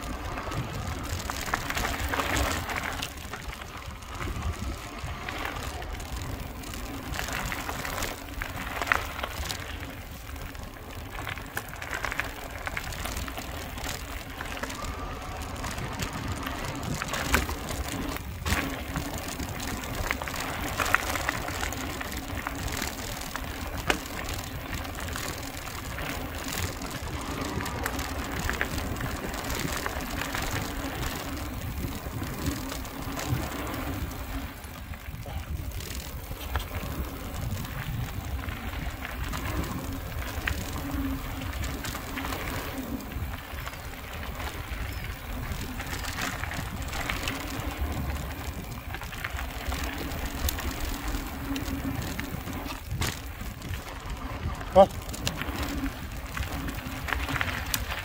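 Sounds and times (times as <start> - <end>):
bike rattling: 0.0 - 58.0
tyres crunching over gravel: 0.0 - 58.0.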